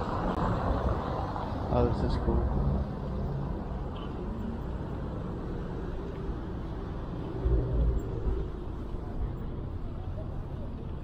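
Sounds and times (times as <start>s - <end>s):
traffic on wet road: 0.0s - 11.0s.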